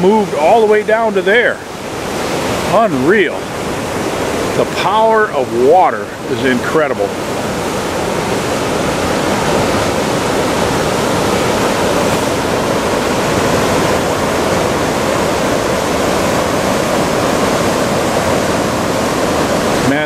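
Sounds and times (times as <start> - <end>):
river rapids roaring: 0.0 - 20.0.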